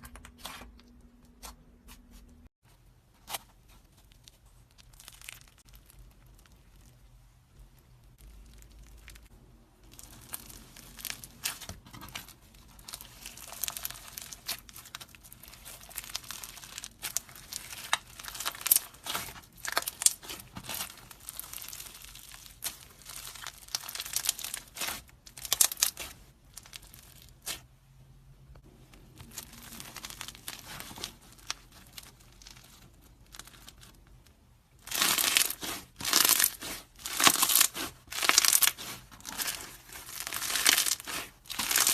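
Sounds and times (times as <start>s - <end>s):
slime squeezed and stretched: 4.2s - 7.0s, 8.1s - 27.7s, 29.2s - 34.0s, 34.8s - 41.9s.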